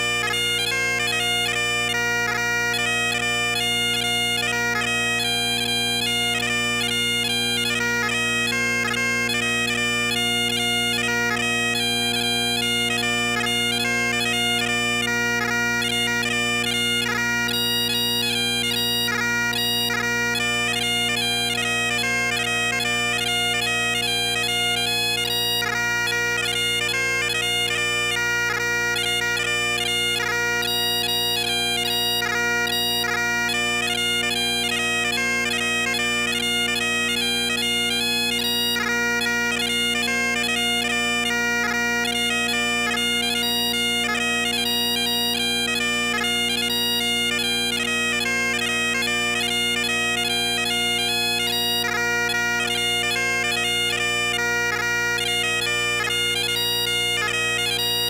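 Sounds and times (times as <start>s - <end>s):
bagpipes playing a quick tune: 0.0s - 58.0s.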